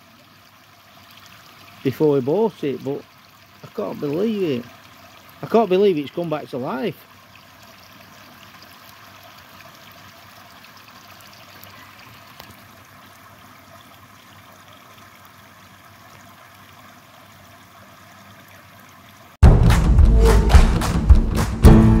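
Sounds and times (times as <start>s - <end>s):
water trickling into pond: 0.0s - 19.4s.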